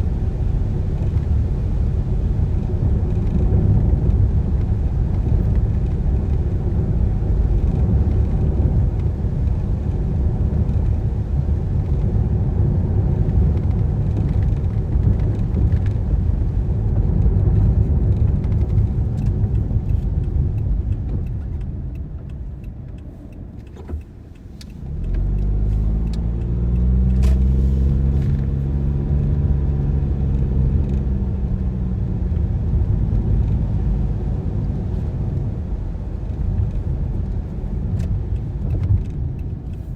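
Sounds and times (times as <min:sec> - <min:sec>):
car engine and tyres on wet road: 0:00.0 - 0:39.9.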